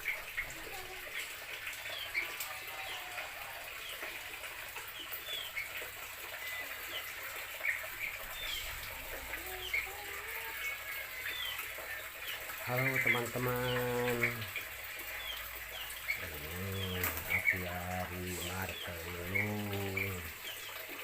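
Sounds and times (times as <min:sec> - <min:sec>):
low wavering bird calls: 0:00.0 - 0:21.0
small birds chirping: 0:00.0 - 0:21.0.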